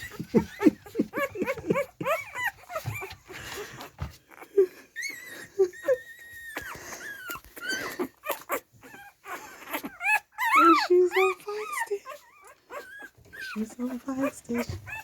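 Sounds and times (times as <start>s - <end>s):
puppy squealing and whining: 0.0s - 15.0s.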